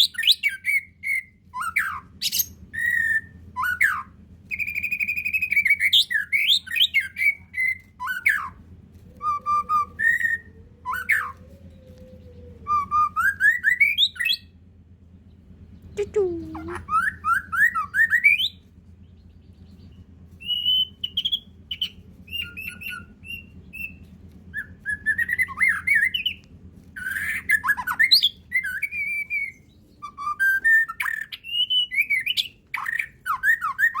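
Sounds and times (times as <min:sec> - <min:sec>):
bird singing varied song: 0:00.0 - 0:34.0.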